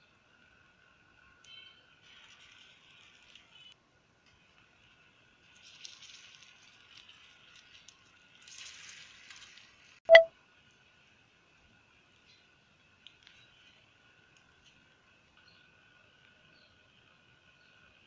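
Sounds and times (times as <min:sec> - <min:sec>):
patties sizzling in oil: 0:00.0 - 0:18.0.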